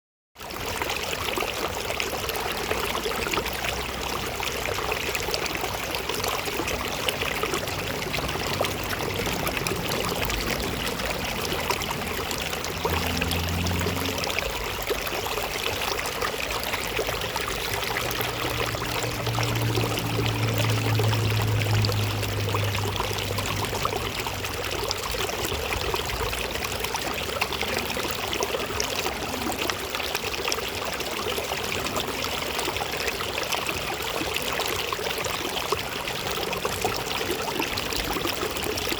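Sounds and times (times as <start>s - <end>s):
stream water flowing: 0.4s - 38.9s.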